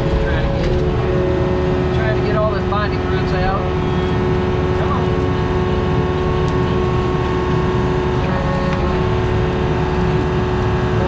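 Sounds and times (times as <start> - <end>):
diesel engine running: 0.0 - 11.0
steady whine: 0.0 - 11.0.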